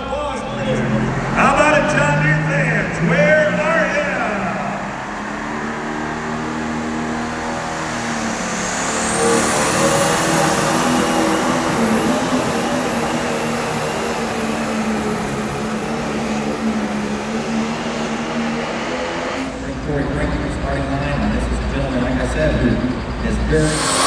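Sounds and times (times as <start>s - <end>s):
high engine whine: 0.0s - 24.0s
tractor engine running: 0.0s - 24.0s.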